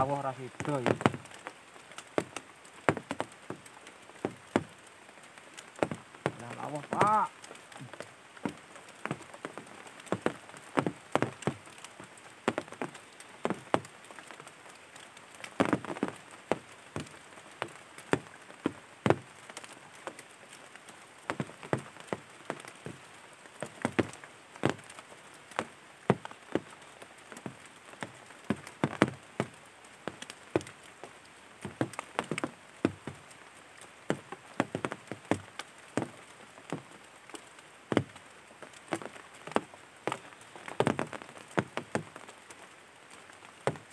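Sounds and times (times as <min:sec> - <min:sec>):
faint steady hiss: 0:00.0 - 0:43.9
water dripping: 0:00.0 - 0:43.9.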